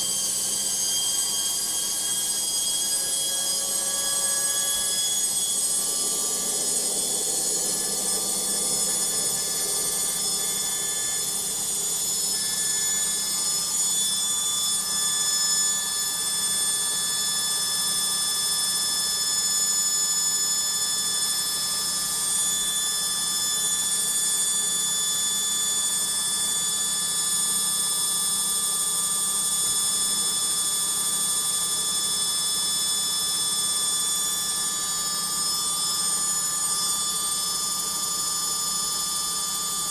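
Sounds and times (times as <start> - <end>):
washing machine spinning whine: 0.0 - 39.9.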